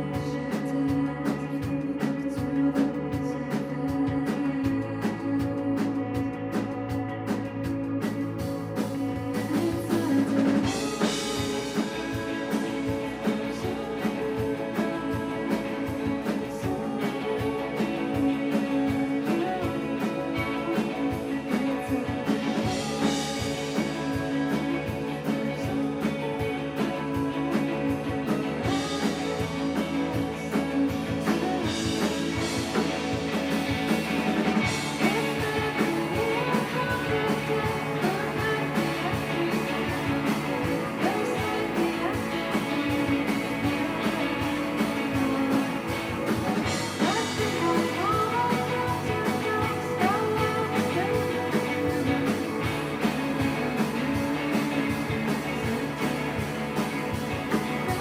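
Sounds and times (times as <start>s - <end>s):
bass guitar: 0.0s - 58.0s
electric guitar: 0.0s - 58.0s
person singing: 0.0s - 58.0s
steady drum beat: 0.0s - 58.0s.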